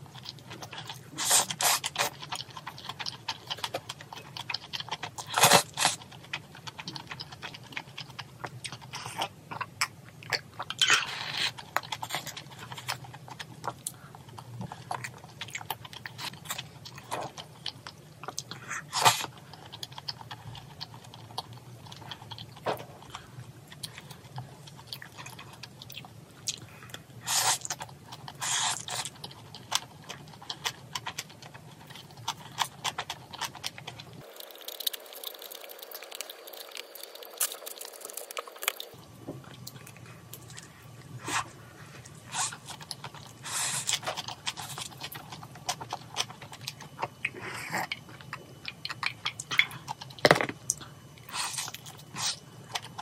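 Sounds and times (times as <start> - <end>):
chewing with wet mouth smacks: 0.1 - 53.0.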